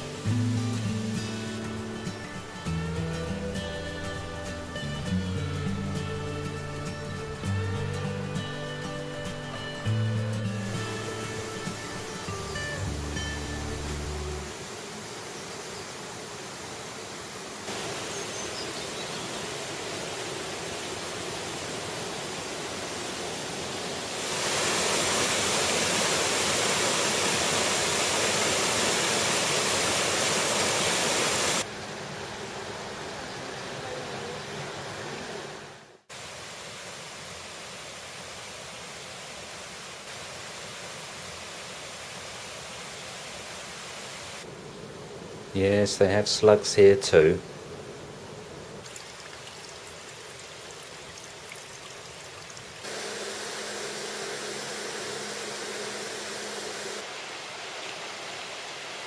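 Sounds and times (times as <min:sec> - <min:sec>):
river and waterfall rushing: 0:00.0 - 0:59.0.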